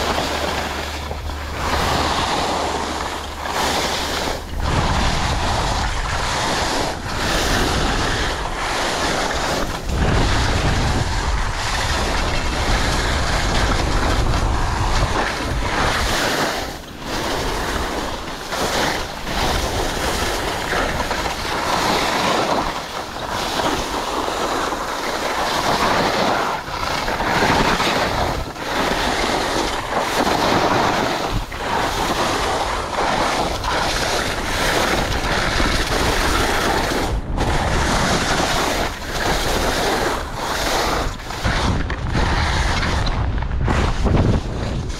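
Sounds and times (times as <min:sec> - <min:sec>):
skis scraping on snow: 0:00.0 - 0:44.9
wind on microphone: 0:00.0 - 0:44.9.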